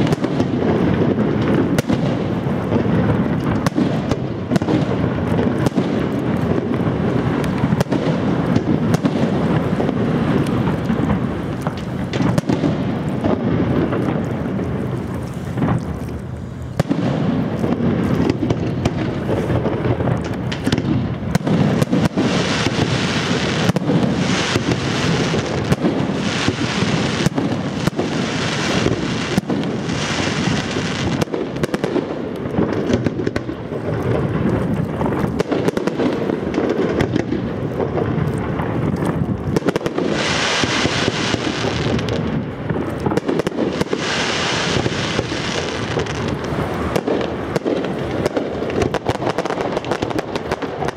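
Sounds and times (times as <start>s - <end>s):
fireworks bangs: 0.0s - 50.9s
fireworks crackling: 0.0s - 50.9s.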